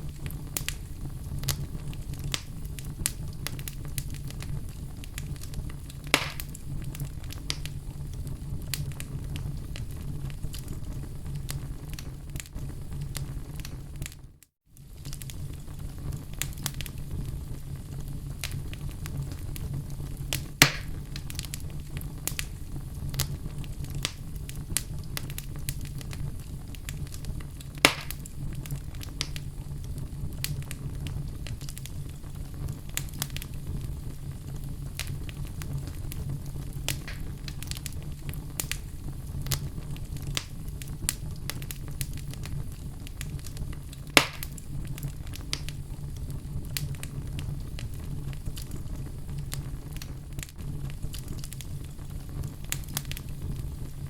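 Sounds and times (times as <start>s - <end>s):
sharp pops of fire: 0.0s - 14.2s, 14.8s - 54.0s
fire crackling: 0.0s - 54.0s.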